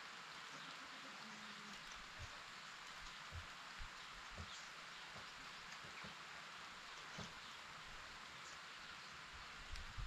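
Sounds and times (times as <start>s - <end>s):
rain hissing on grass and foliage: 0.0s - 10.0s.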